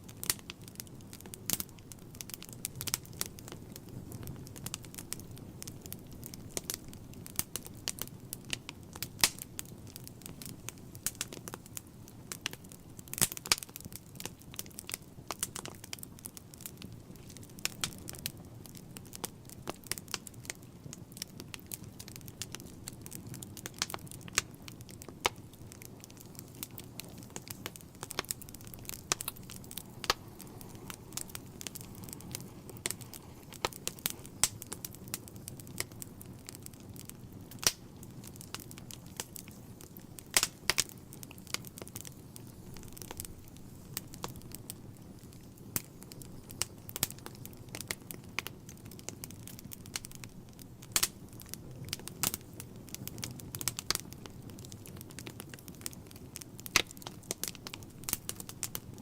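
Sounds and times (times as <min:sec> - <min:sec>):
low rush of flame: 0:00.0 - 0:59.0
wood fire crackling and popping: 0:00.0 - 0:59.0.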